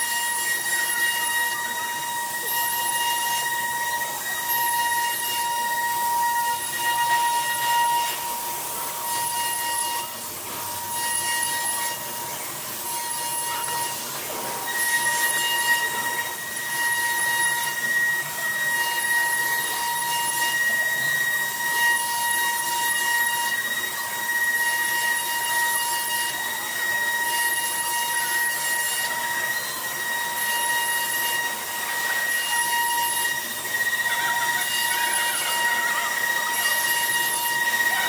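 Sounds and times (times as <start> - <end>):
router spindle whine: 0.0 - 38.0.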